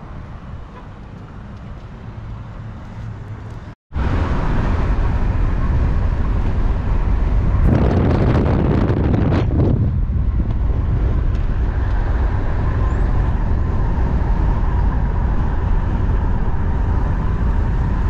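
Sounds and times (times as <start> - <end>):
wind and road noise rushing: 0.0 - 18.0.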